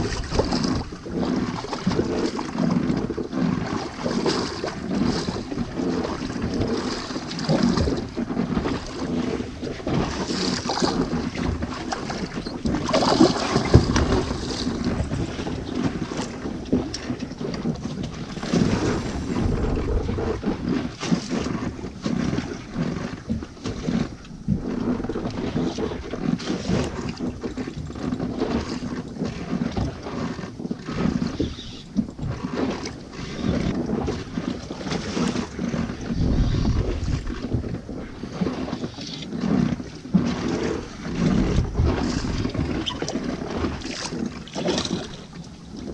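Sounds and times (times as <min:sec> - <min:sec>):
sea noise: 0:00.0 - 0:45.9
wind buffeting microphone: 0:00.0 - 0:45.9.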